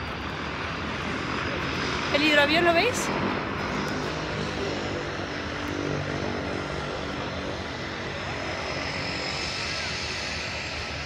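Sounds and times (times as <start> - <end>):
propeller engine droning: 0.0 - 11.0.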